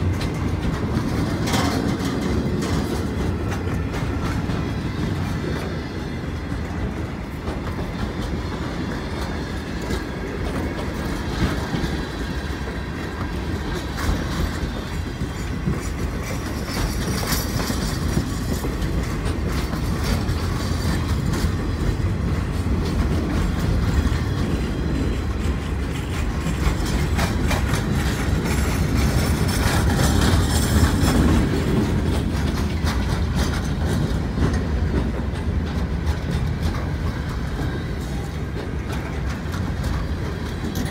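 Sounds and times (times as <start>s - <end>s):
clickety-clack over rail joints: 0.0s - 40.9s
steel wheels rumbling on rail: 0.0s - 40.9s.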